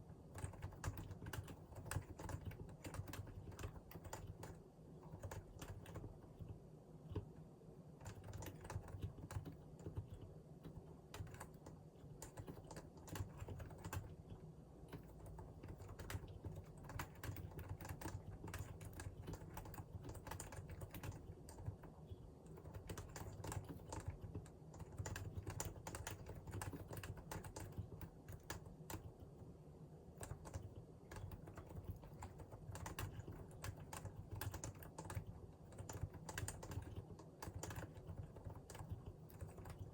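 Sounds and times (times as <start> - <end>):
keyboard typing: 0.3 - 7.3, 8.0 - 29.4, 30.2 - 39.9.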